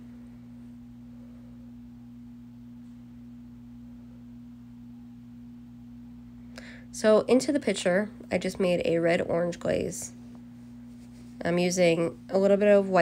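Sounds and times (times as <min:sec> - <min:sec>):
faint room noise: 0:00.0 - 0:13.0
steady hum: 0:00.0 - 0:13.0.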